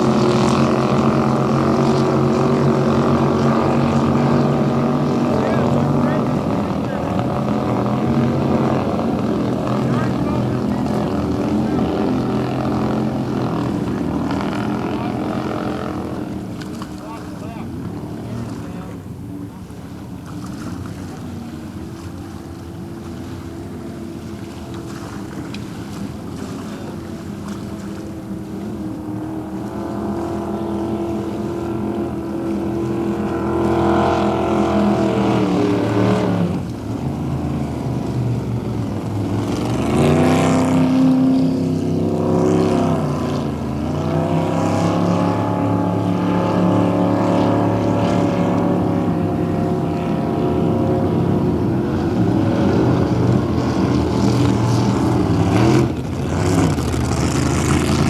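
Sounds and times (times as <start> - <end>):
motorboat engines running: 0.0 - 58.0.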